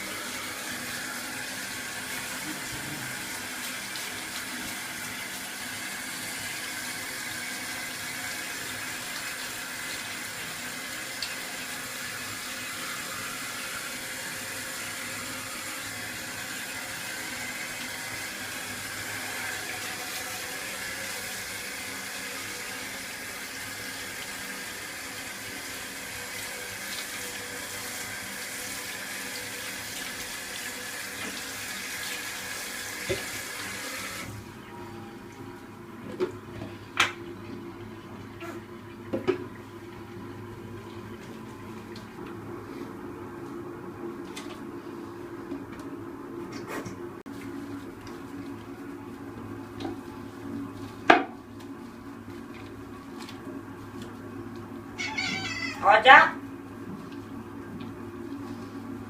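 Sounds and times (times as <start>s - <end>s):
shower water running: 0.0s - 35.8s, 47.2s - 59.0s.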